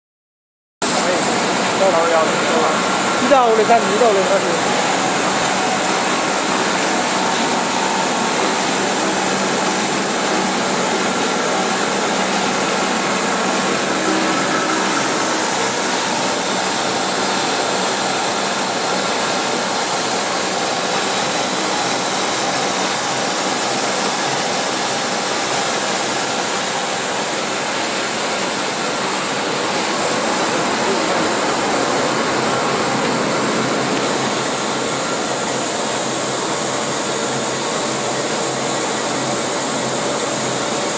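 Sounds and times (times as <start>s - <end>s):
coating machine hissing and whirring: 0.9s - 40.9s.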